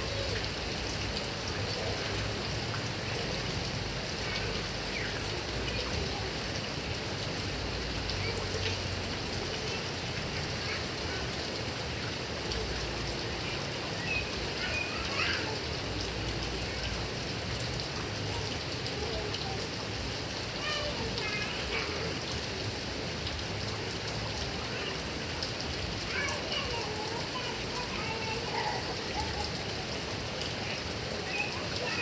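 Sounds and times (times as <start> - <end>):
heavy rain on grass and trees: 0.0 - 32.0.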